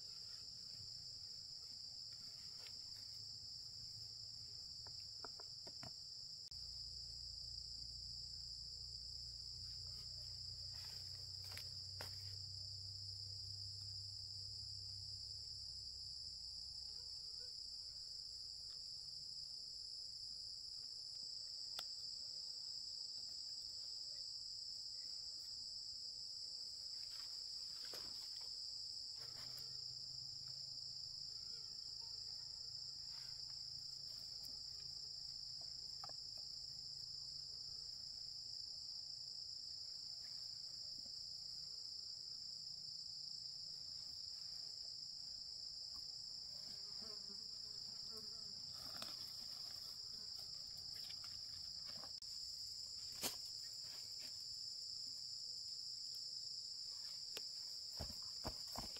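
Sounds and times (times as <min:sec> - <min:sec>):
high-pitched insect chorus: 0:00.0 - 0:58.9.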